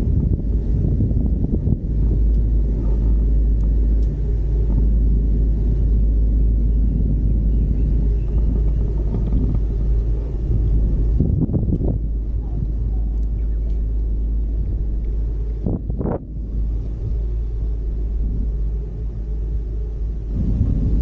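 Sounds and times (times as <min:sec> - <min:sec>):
gondola low rumble: 0:00.0 - 0:21.0.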